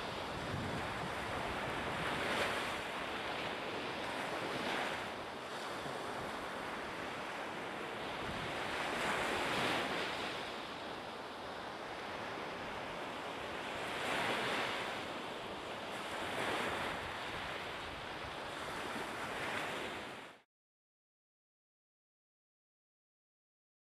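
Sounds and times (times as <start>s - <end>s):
sea waves washing in: 0.0s - 20.4s.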